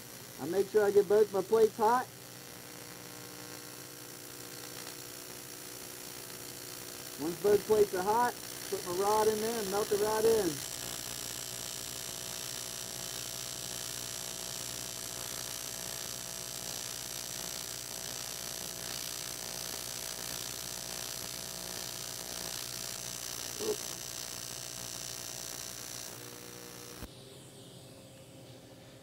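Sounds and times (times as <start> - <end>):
welding arc hissing: 0.0 - 27.1
welding arc pop: 0.0 - 27.1.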